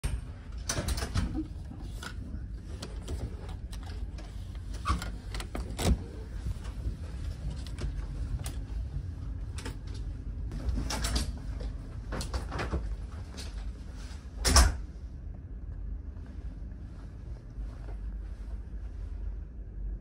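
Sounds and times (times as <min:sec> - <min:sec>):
ferry low rumble: 0:00.0 - 0:20.0.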